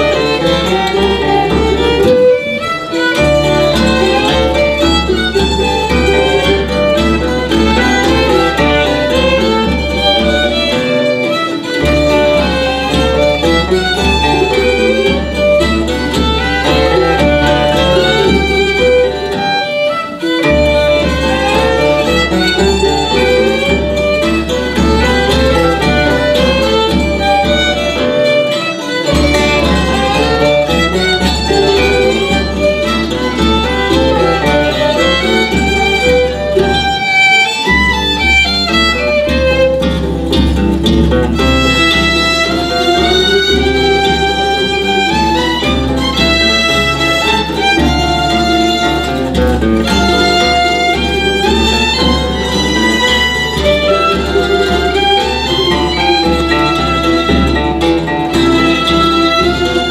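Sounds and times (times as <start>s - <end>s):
plucked guitars: 0.0s - 59.9s
violins: 0.0s - 59.9s.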